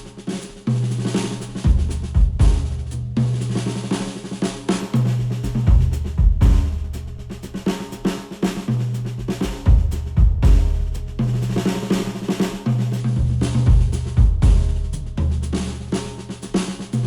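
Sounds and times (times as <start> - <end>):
drum kit: 0.0 - 17.0.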